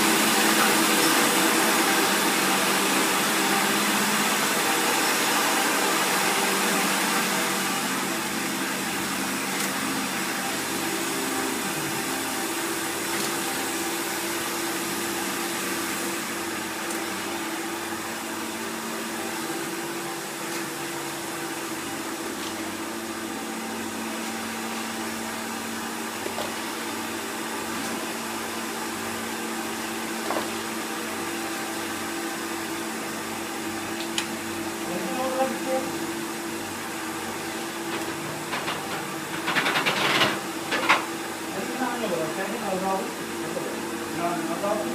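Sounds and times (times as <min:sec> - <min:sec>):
machine whirring with low hum: 0:00.0 - 0:44.9.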